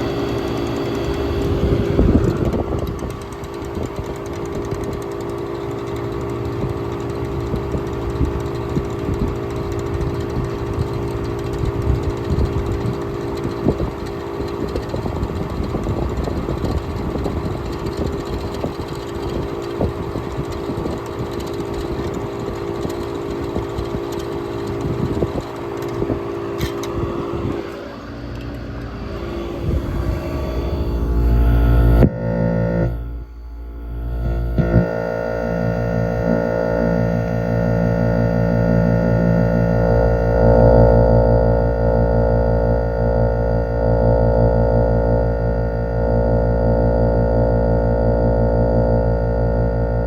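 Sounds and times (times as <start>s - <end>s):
air conditioning hum: 0.0s - 50.0s.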